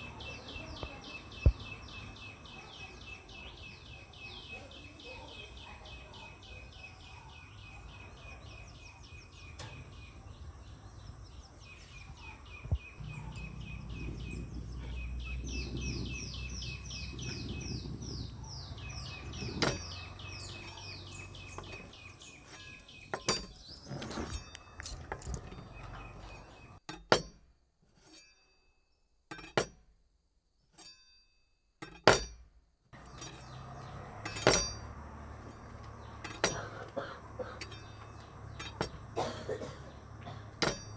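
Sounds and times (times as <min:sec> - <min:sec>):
bird chirping: 0:00.0 - 0:26.8, 0:33.0 - 0:40.9.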